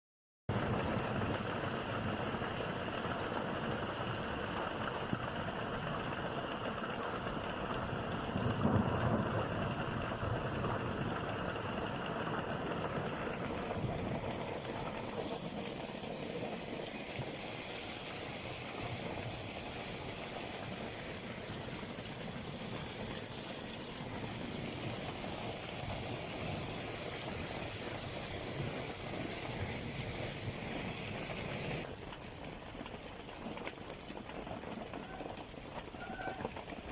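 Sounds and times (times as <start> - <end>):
runoff water running: 0.5 - 36.9
steady rain: 0.5 - 36.9.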